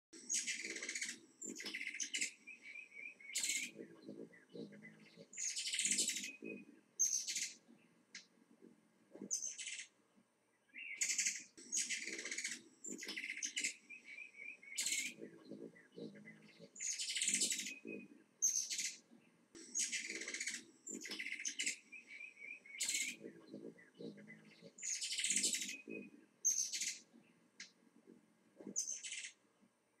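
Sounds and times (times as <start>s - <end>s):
soft bird chirps: 0.2s - 8.4s, 9.1s - 30.0s
songbirds singing: 0.2s - 30.0s.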